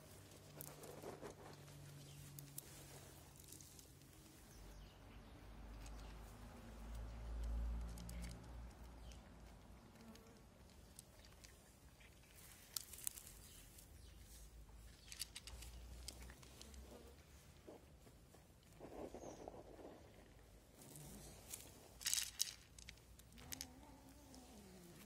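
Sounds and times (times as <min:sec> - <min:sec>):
cats crunching dry kibble: 0:00.0 - 0:04.5, 0:05.7 - 0:17.8, 0:18.5 - 0:25.0.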